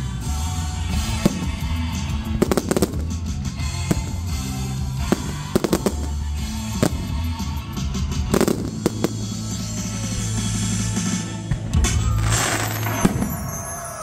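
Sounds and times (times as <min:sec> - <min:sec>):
loud music with bass line: 0:00.0 - 0:13.3
fireworks banging: 0:00.9 - 0:14.0.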